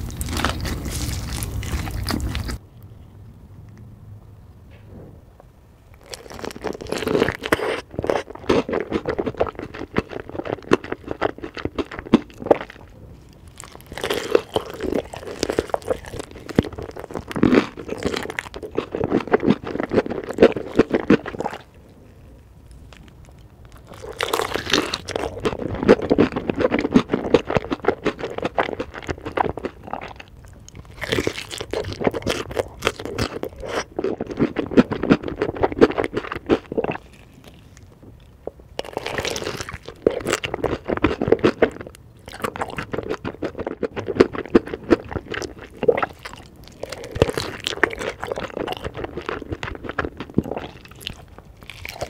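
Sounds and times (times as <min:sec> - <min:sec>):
crunching and chewing food: 0:00.0 - 0:03.8, 0:05.9 - 0:52.0.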